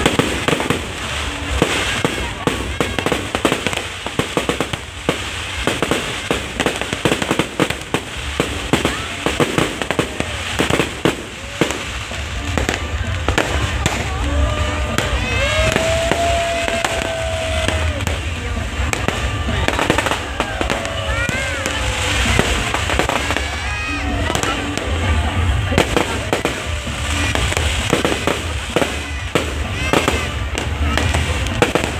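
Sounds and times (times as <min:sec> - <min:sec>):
crowd voices: 0:00.0 - 0:31.9
fireworks bangs and crackles: 0:00.0 - 0:31.9.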